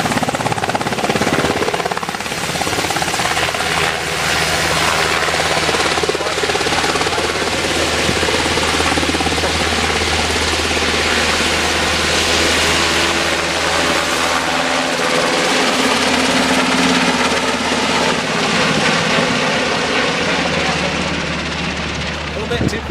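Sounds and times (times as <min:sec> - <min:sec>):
helicopter rotor chop: 0:00.0 - 0:22.9.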